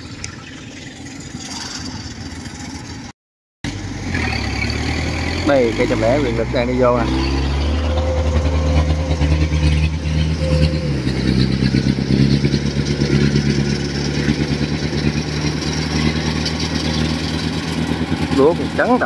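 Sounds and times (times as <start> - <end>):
combine harvester engine running: 3.7 - 19.0.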